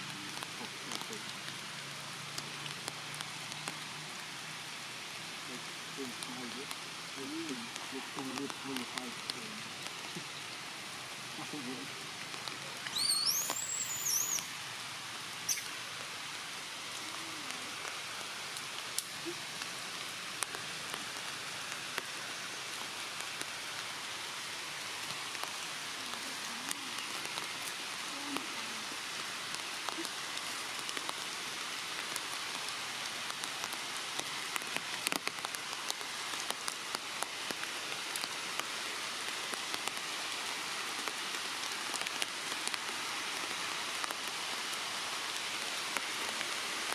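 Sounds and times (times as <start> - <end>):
light rain on leaves: 0.0 - 46.9.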